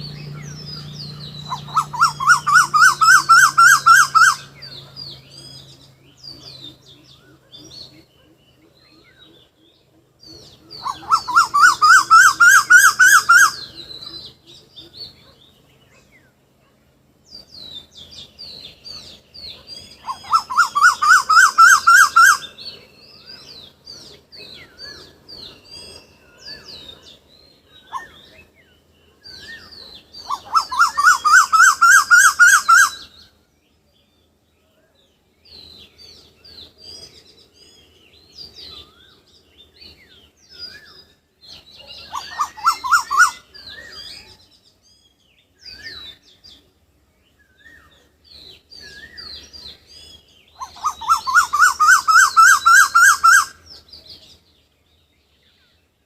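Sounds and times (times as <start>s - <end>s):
birds chirping softly: 0.0s - 56.0s.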